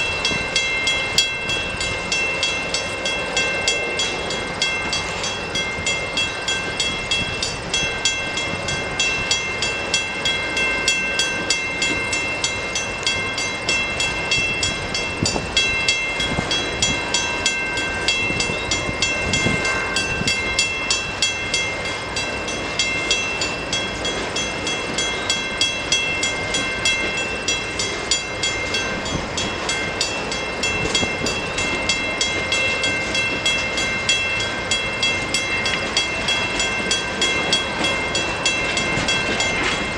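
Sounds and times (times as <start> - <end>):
high-pitched ringing tones: 0.0 - 39.9
train wheels clicking on rail joints: 0.0 - 39.9.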